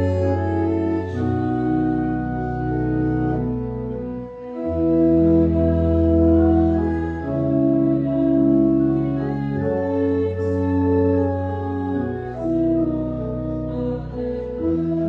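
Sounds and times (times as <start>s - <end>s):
organ playing hymn chords: 0.0s - 15.0s.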